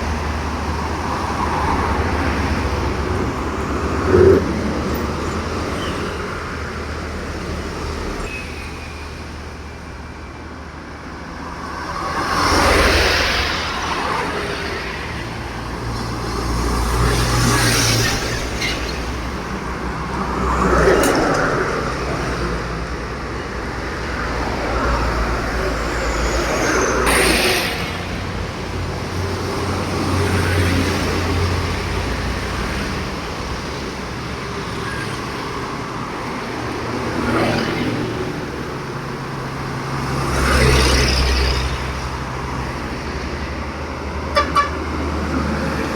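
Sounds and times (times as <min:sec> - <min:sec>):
truck engines rumbling: 0:00.0 - 0:45.9
tyre noise of passing vehicles: 0:00.0 - 0:45.9.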